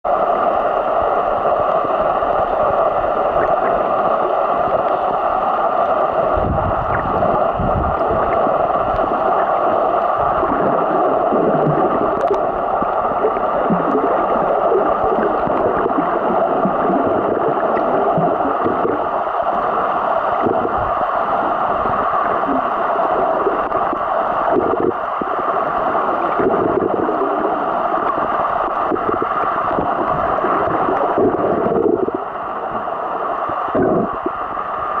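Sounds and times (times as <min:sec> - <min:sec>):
muffled underwater water rush: 0:00.0 - 0:35.0
low gurgles and bumps: 0:00.1 - 0:35.0.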